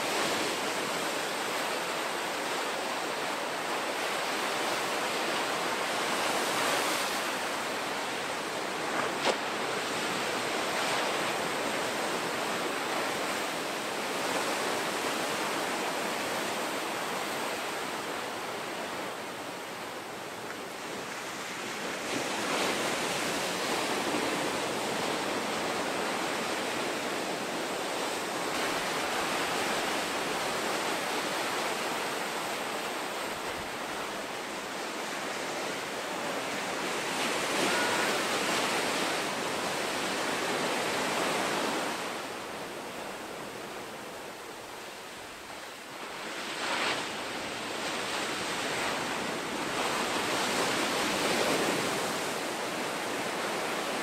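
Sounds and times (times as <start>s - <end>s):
ocean surf breaking: 0.0s - 54.0s.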